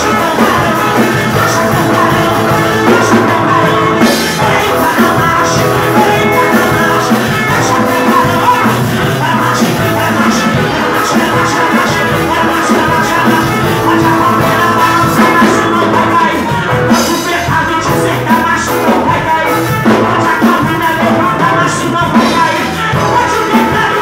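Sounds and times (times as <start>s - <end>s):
gospel band with drums: 0.0s - 24.0s
person singing: 0.0s - 24.0s.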